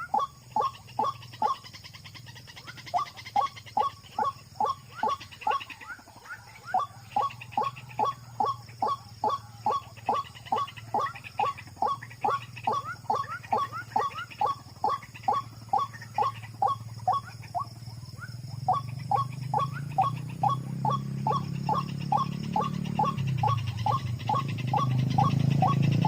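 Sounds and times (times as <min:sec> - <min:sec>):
waterhen harsh calls: 0:00.0 - 0:17.7, 0:18.7 - 0:26.0.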